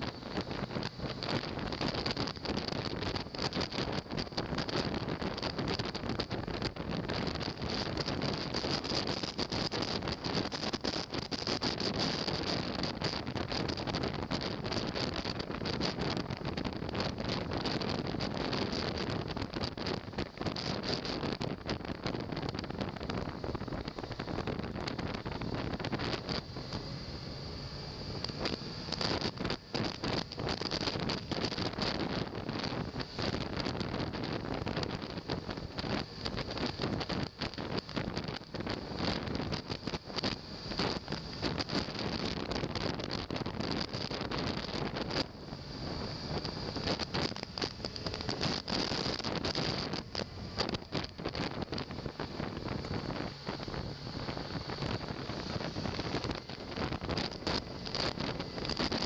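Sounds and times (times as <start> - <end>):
motorcycle engine running: 0.0 - 59.0
road noise: 0.0 - 59.0
wind buffeting microphone: 0.0 - 59.0.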